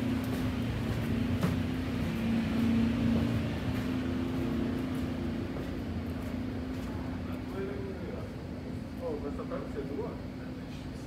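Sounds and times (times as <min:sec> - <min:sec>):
ship ventilation and machinery hum: 0:00.0 - 0:11.0.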